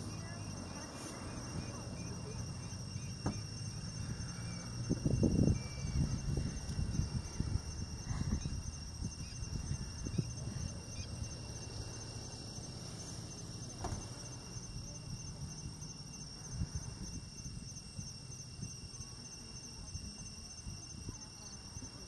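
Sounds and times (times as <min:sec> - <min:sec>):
high chorus of insects: 0:00.0 - 0:22.0.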